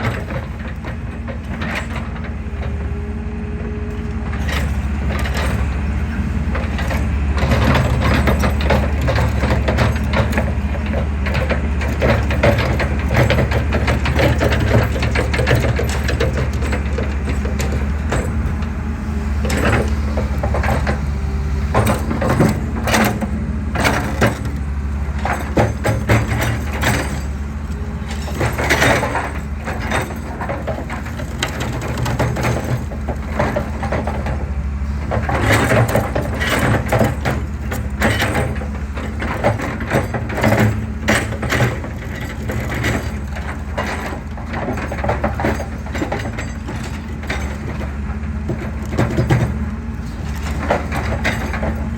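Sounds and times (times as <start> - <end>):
excavator engine running: 0.0 - 51.9.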